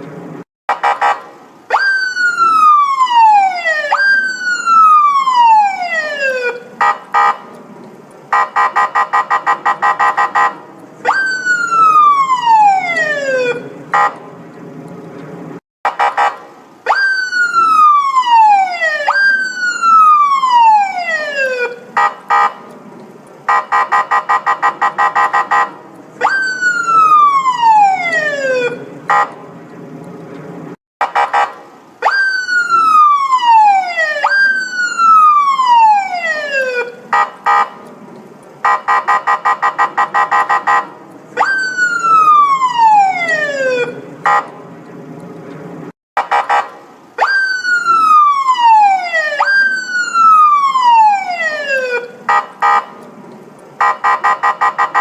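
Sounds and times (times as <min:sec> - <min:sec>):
police siren falling sweeps: 0:00.8 - 0:07.5, 0:08.3 - 0:14.2, 0:16.0 - 0:22.7, 0:23.4 - 0:29.4, 0:31.1 - 0:37.8, 0:38.6 - 0:44.6, 0:46.3 - 0:53.0.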